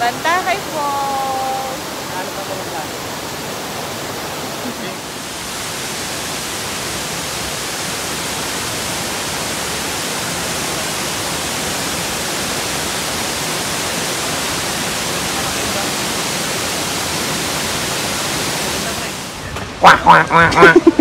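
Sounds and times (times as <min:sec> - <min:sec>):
waterfall pouring into pool: 0:00.0 - 0:21.0.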